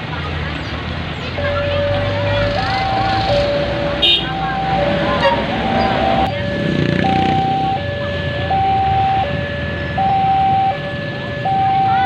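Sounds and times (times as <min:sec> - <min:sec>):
road traffic rumble: 0:00.0 - 0:12.0
two-tone hi-lo siren: 0:01.4 - 0:12.0.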